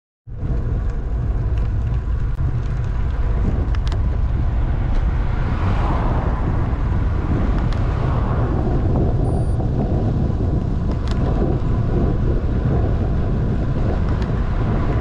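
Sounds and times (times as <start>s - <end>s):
wind buffeting microphone: 0.3s - 15.0s.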